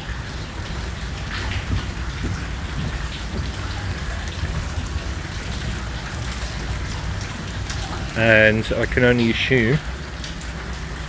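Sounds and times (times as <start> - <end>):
heavy rain: 0.0 - 11.0
water drips: 0.0 - 11.0.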